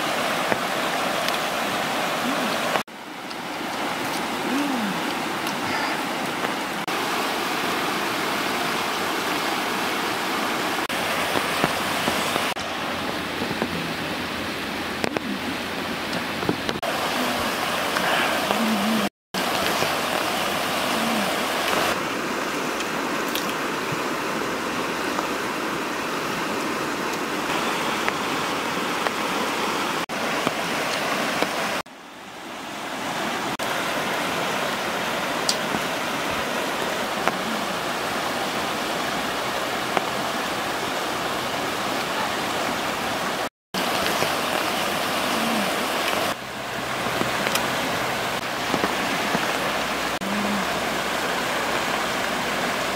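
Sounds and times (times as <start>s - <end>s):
river water rushing: 0.0s - 52.9s.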